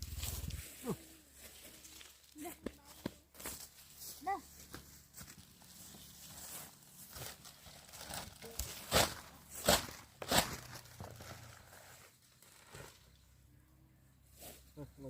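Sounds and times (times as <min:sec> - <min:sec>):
rustling and crunching handling: 0:00.0 - 0:13.3.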